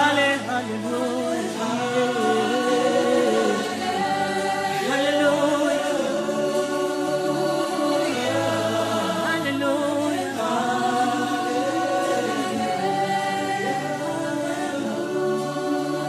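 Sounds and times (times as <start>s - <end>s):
voices singing gospel song: 0.0s - 16.0s.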